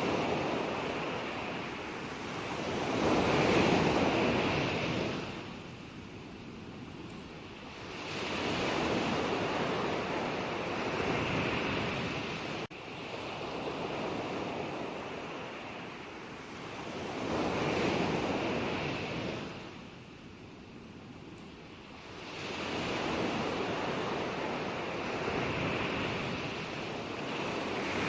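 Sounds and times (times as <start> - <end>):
ocean waves washing onto shore: 0.0 - 28.0.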